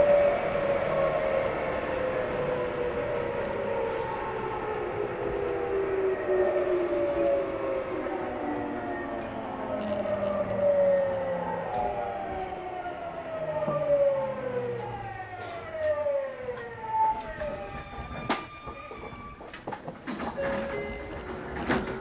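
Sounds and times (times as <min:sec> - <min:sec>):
electric train motor whine: 0:00.0 - 0:19.6.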